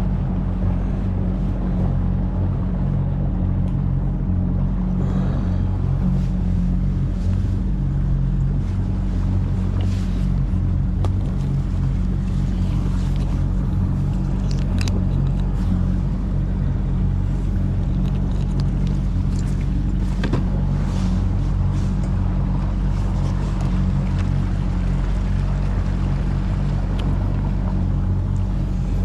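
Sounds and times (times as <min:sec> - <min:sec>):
motorboat engine drone: 0:00.0 - 0:29.0.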